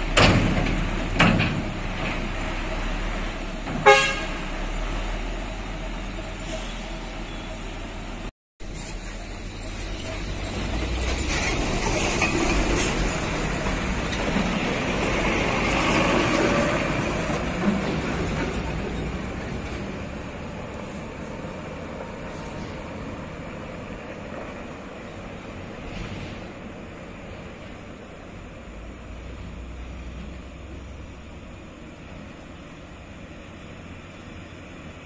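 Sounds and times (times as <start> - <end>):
heavy truck engine passing: 0.0 - 35.0.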